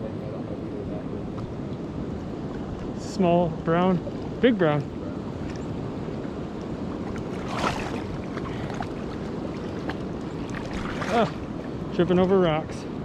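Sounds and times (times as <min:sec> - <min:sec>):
flowing river water: 0:00.1 - 0:13.0.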